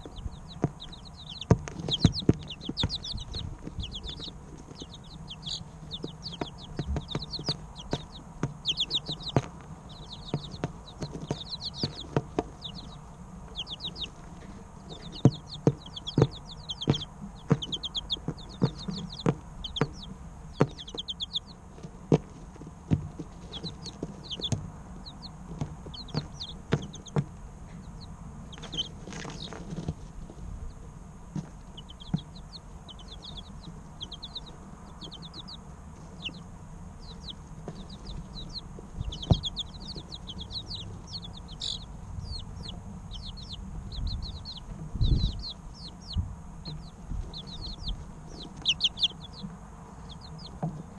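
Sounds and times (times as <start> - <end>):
chicks peeping: 0.0 - 50.9
steady low hum: 0.0 - 50.9.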